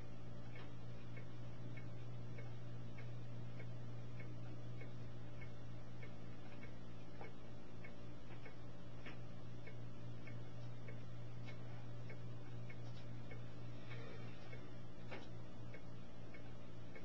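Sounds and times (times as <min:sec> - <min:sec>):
regular ticking: 0:00.0 - 0:17.0
steady low hum: 0:00.0 - 0:17.0.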